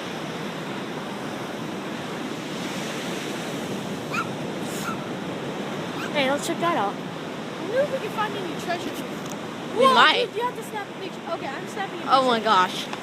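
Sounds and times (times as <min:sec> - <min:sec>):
ocean surf washing: 0:00.0 - 0:13.0.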